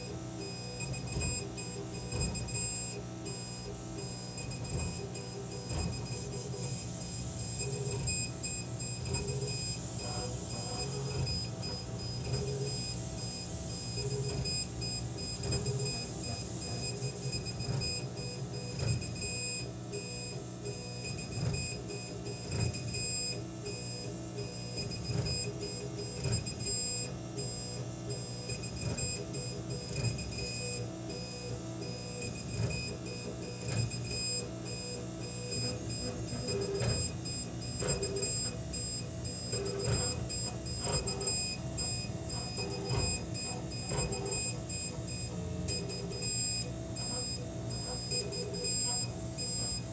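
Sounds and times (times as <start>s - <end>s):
high steady whines: 0.0s - 49.9s
laser cutter hum: 0.0s - 49.9s
stepper motors buzzing: 0.0s - 49.9s.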